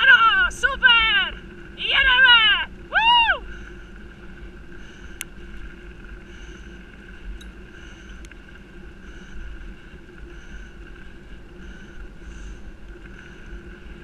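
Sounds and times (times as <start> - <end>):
wheels whirring on path: 0.0 - 14.0
wind rumbling on camera: 0.0 - 14.0.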